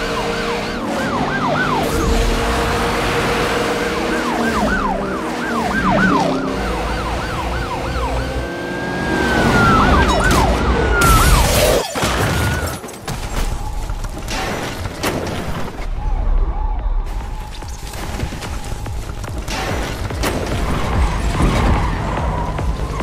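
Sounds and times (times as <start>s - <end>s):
emergency vehicle siren: 0.0s - 14.3s, 15.8s - 19.1s, 20.6s - 23.0s.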